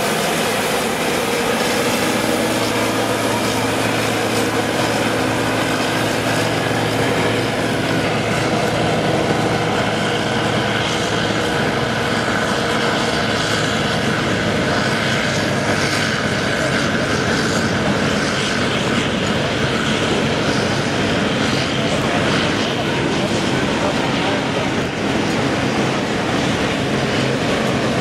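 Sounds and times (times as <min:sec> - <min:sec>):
combine harvester engine drone: 0:00.0 - 0:28.0.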